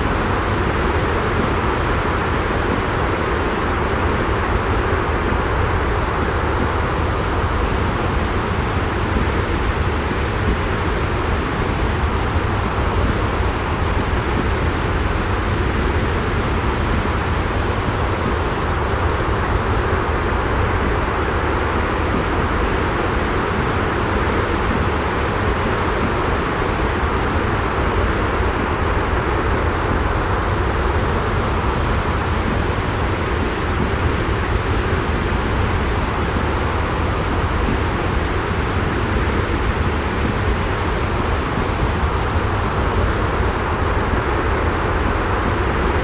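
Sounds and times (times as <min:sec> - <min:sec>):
steady white noise: 0:00.0 - 0:46.0.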